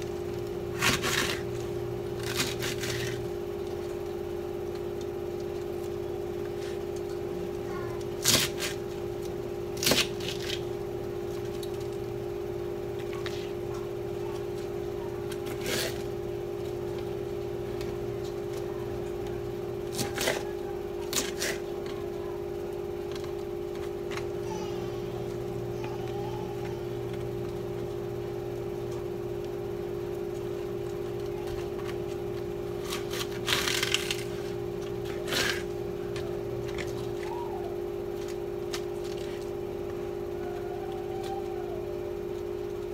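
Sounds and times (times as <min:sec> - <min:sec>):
steady electrical hum: 0:00.0 - 0:42.9.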